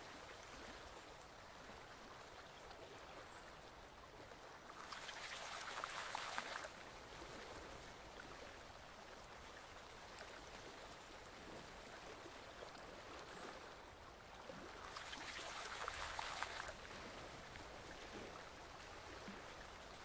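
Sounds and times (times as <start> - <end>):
stream flowing and trickling: 0.0 - 20.0.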